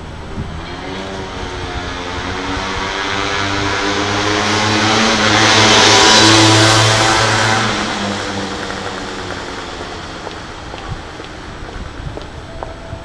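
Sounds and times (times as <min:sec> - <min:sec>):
vehicle passing by: 0:00.0 - 0:12.4.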